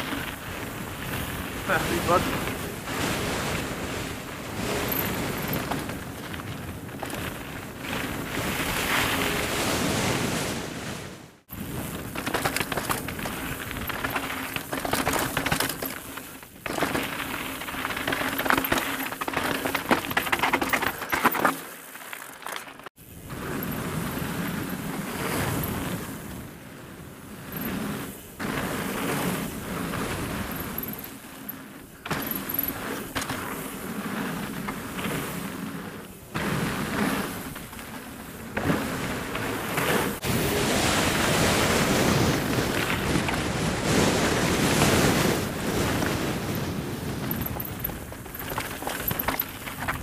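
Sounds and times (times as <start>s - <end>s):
bike tyres rolling on boardwalk: 0.0s - 50.0s.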